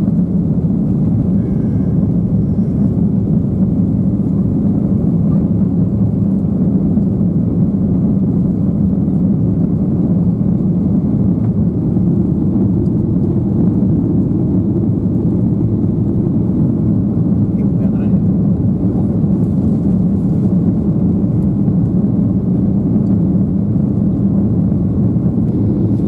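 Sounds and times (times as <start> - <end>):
airplane cabin engine drone: 0.0 - 26.0.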